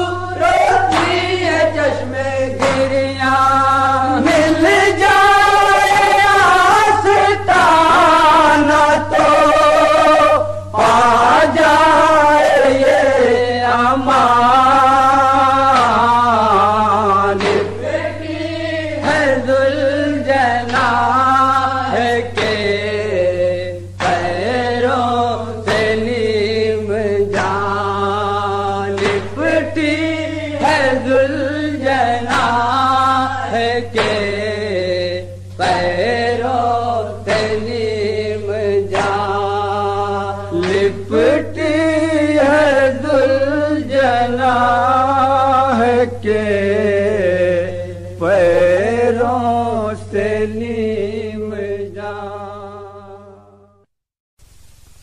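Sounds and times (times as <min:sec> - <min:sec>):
person chanting a mourning lament: 0:00.0 - 0:53.8
steady low hum: 0:00.0 - 0:55.0.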